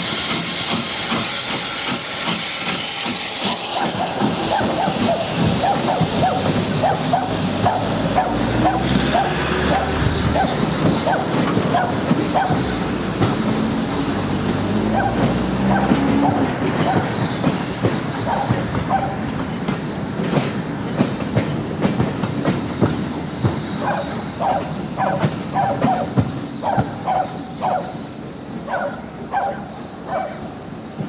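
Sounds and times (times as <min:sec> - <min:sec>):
train wheels clicking over rail joints: 0:00.0 - 0:30.1.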